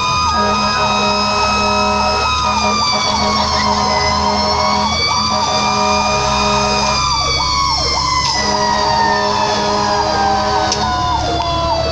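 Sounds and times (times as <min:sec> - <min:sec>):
electronic siren with quick dips: 0:00.0 - 0:11.7
falling siren tone: 0:00.0 - 0:11.9
truck engine drone: 0:00.0 - 0:11.9.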